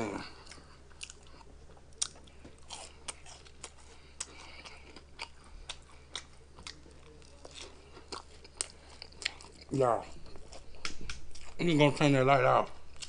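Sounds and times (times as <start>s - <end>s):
person chewing food: 0.0s - 12.0s, 12.6s - 13.0s.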